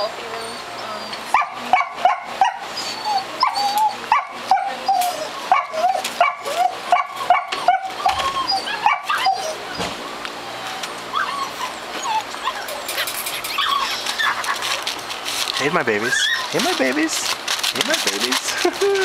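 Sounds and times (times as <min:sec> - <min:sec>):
puppies yipping and whining: 0:00.0 - 0:19.0.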